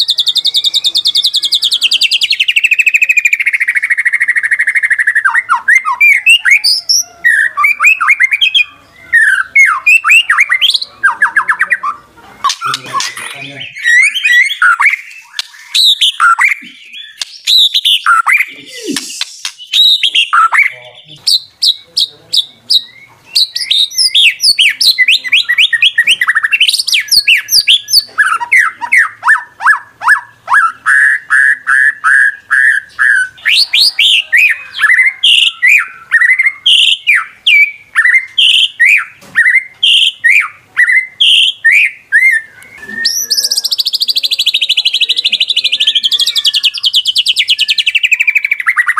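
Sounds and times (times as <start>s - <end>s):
songbird whistling and trilling: 0.0s - 48.9s.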